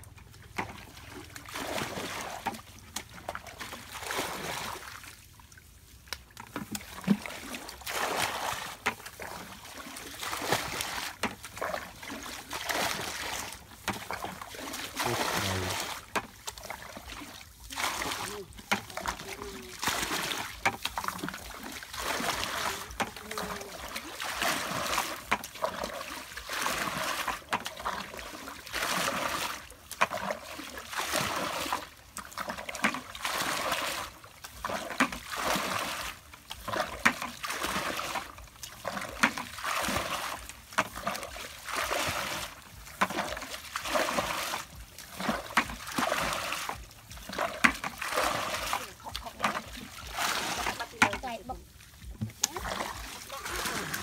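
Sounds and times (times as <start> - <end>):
bucket scooping and pouring water: 0.0 - 54.0.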